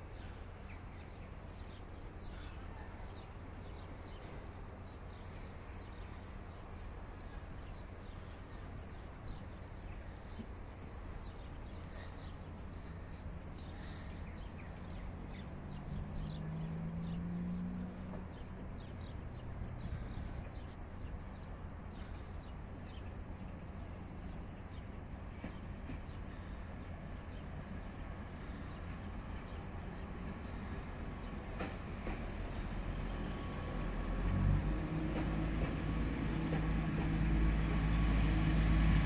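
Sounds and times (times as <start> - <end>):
small birds chirping: 0.1 - 33.7.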